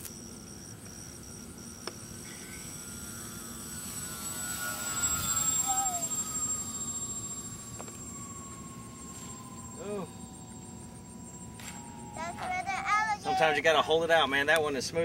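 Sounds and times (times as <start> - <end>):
model plane propellers droning: 0.0 - 15.0.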